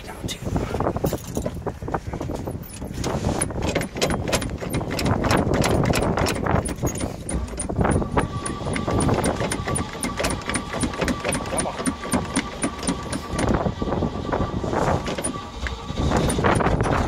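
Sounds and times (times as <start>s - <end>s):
pickup engine revving: 3.2s - 17.0s.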